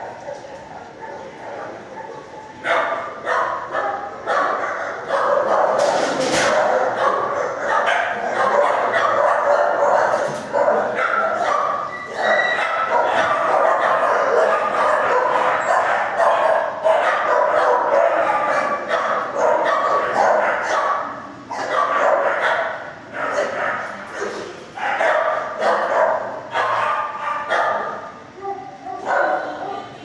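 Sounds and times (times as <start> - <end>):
dogs barking and yipping: 0.0 - 29.6.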